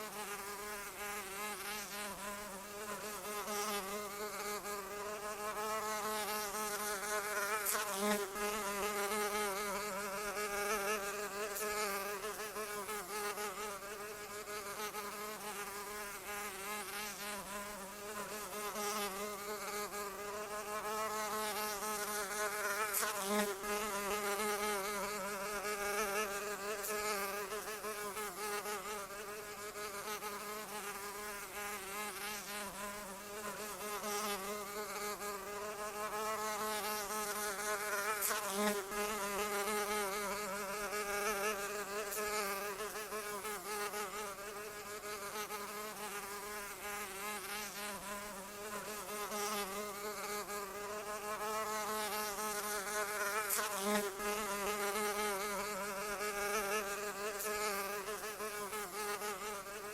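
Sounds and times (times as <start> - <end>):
flying insect buzzing: 0.0 - 59.9.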